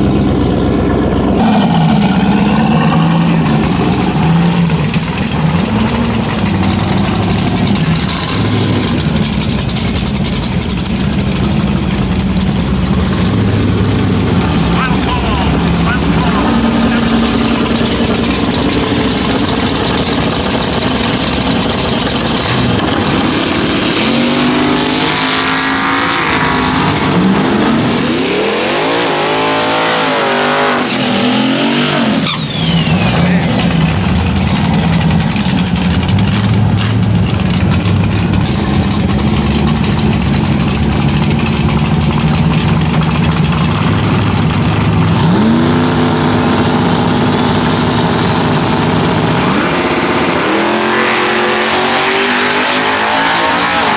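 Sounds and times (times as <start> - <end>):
racing engine revving: 0.0 - 53.9.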